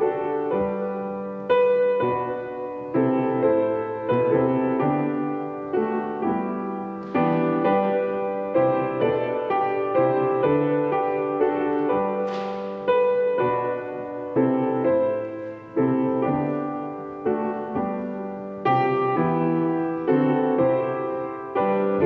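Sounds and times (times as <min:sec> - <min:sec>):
slow solo piano: 0:00.0 - 0:22.0.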